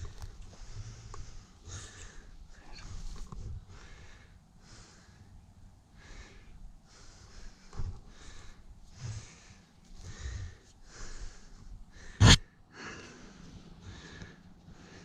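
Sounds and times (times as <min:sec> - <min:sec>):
person breathing heavily: 0:00.0 - 0:15.0.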